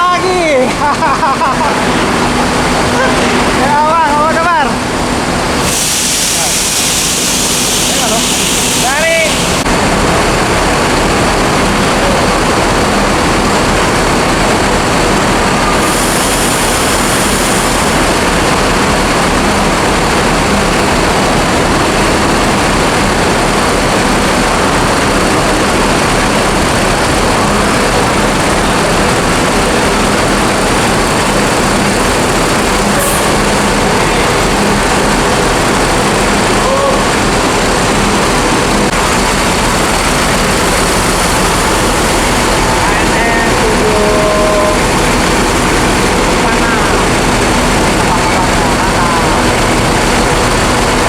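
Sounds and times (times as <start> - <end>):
engine drone and rumble: 8.9 - 51.0.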